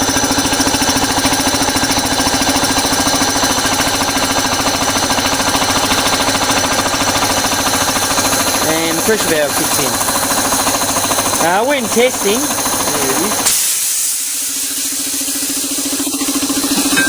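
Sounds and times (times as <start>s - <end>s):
air compressor pulsing: 0.0s - 17.0s.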